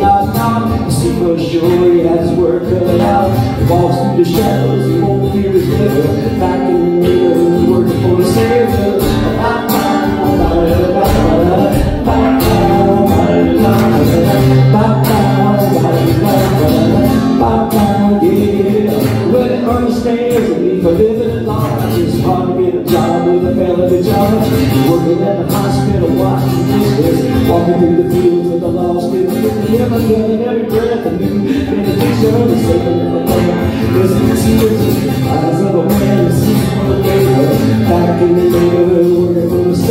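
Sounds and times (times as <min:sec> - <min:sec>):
acoustic guitar strumming: 0:00.0 - 0:39.9
man singing: 0:00.0 - 0:39.9.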